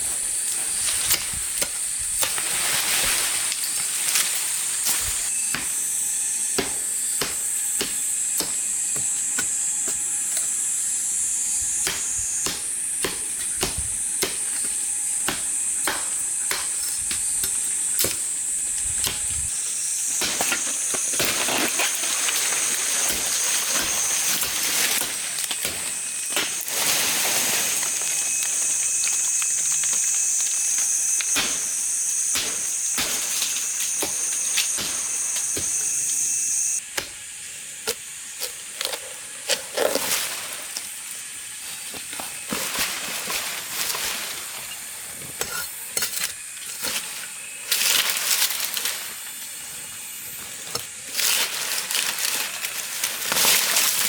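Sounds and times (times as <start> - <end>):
insects buzzing: 0.0 - 54.0.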